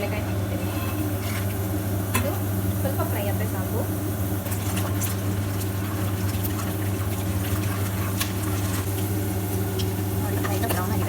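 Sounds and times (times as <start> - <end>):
nuts frying in hot oil: 0.0 - 11.0.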